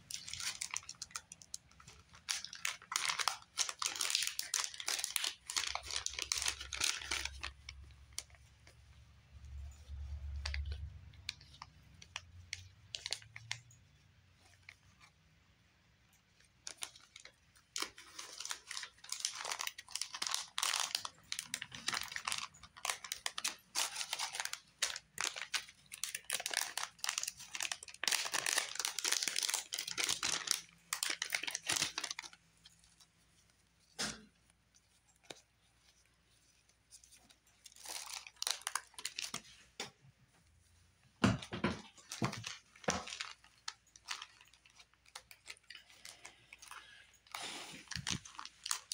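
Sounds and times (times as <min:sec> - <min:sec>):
plastic pouch crinkling: 0:00.0 - 0:15.2, 0:16.2 - 0:39.8, 0:41.8 - 0:48.9
stiff paper rustling: 0:00.1 - 0:15.2, 0:16.3 - 0:41.1, 0:41.9 - 0:48.9.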